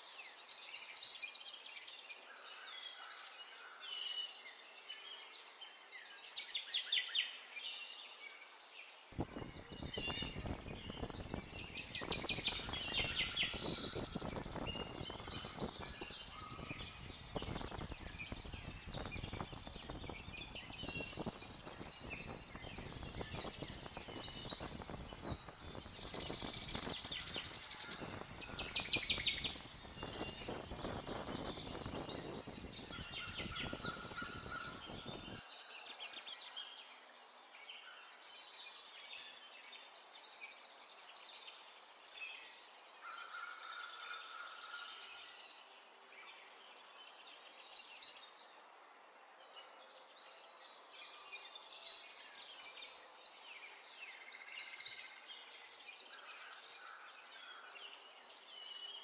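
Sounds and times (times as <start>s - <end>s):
small birds chirping in trills: 0.0s - 59.0s.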